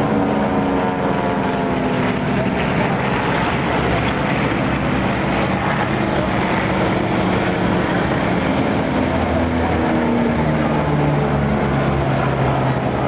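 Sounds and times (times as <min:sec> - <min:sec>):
airplane engines flying overhead: 0:00.0 - 0:13.0.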